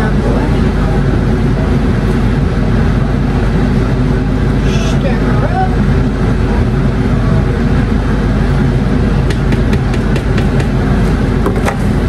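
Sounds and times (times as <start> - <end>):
exhaust fan running: 0.0 - 12.0.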